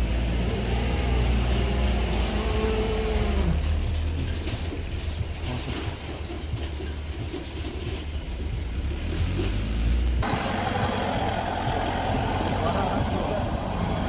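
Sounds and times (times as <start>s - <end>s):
engine and road noise: 0.0s - 14.0s
heavy vehicle engine rumbling: 0.0s - 14.0s.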